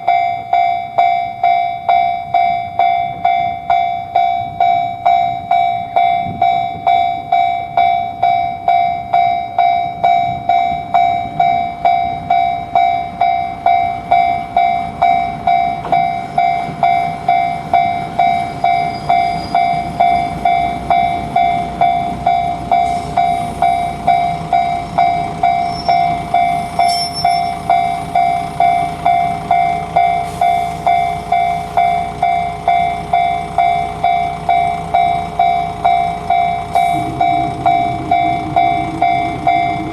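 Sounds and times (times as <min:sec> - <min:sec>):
level-crossing alarm bell ringing: 0:00.0 - 0:39.9
train rumble: 0:00.0 - 0:39.9.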